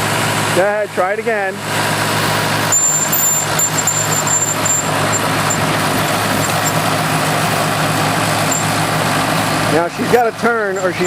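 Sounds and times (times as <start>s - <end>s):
bulldozer engine running: 0.0s - 11.0s.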